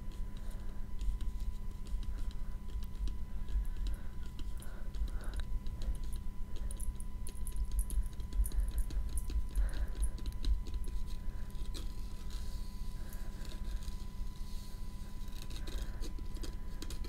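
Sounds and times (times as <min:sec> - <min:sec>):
low electrical hum: 0:00.0 - 0:17.0
thin constant whine: 0:00.0 - 0:17.0.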